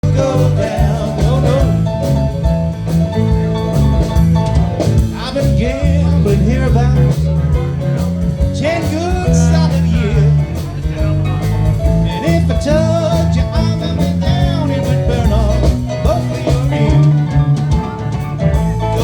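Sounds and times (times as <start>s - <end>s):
bass line: 0.0s - 19.0s
bending lead guitar notes: 0.0s - 19.0s
drums: 0.0s - 19.0s
live blues band playing: 0.0s - 19.0s.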